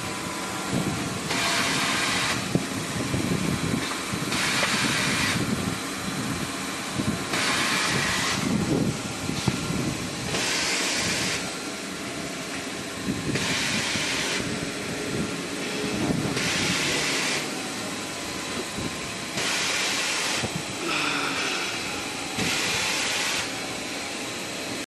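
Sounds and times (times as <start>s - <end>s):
cutting machine hum: 4.3s - 24.8s.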